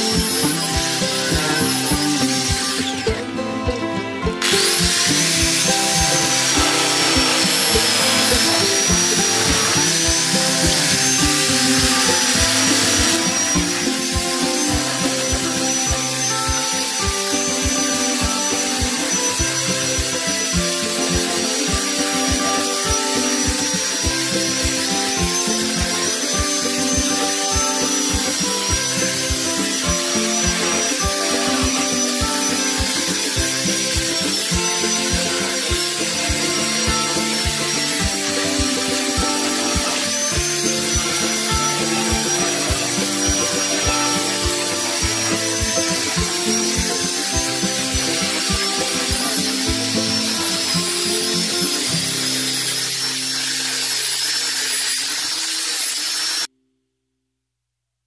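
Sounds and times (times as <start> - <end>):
background music with steady beat: 0.0 - 52.7
angle grinder sanding metal: 0.0 - 56.5.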